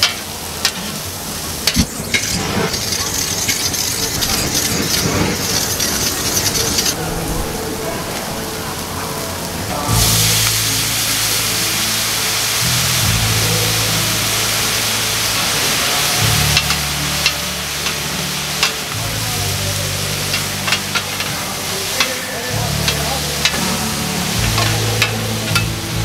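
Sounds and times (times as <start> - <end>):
meat sizzling on a griddle: 0.0 - 26.0.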